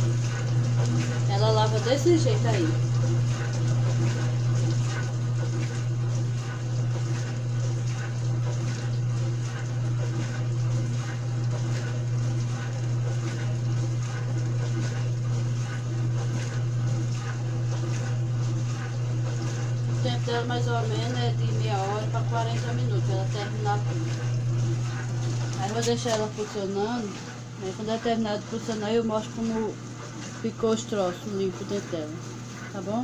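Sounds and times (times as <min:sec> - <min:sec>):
dishwasher motor hum: 0:00.0 - 0:33.0
water spraying in dishwasher: 0:00.0 - 0:33.0.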